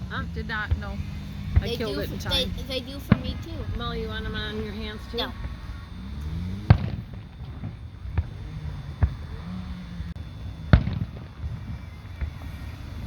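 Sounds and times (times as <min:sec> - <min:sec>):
distant fireworks booms: 0:00.0 - 0:13.0.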